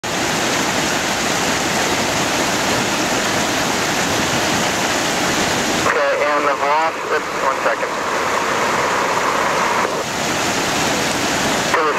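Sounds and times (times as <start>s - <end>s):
stream rushing over rocks: 0.0s - 11.9s.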